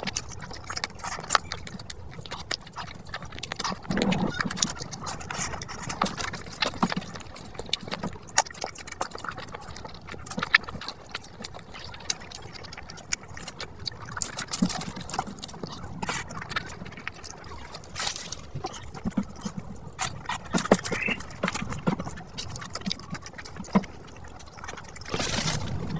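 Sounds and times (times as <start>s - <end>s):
lip smacks: 0.0s - 25.9s
mouth clicks: 0.0s - 25.9s
wet chewing: 0.0s - 25.9s.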